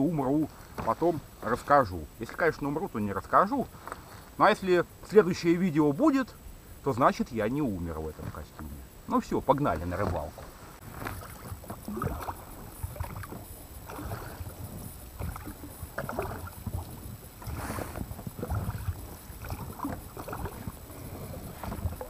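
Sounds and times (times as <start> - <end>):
water splashing against boat hull: 0.0 - 4.3, 7.0 - 22.0.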